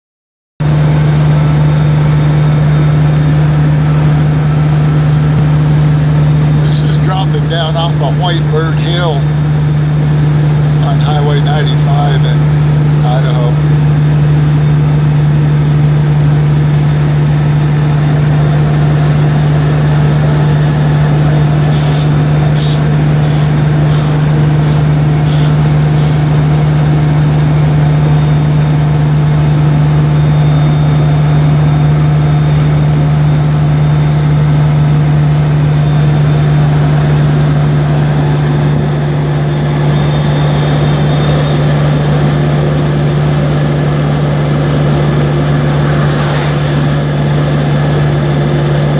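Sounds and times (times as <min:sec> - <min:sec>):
car engine and road drone: 0:00.6 - 0:48.9.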